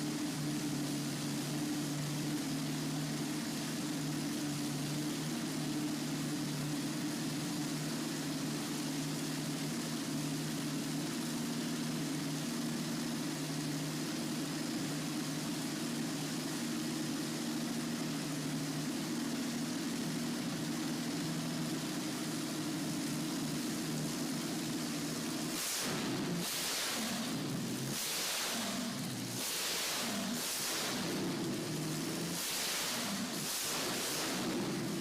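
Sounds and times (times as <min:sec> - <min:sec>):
aircraft engine running: 0:00.0 - 0:29.3.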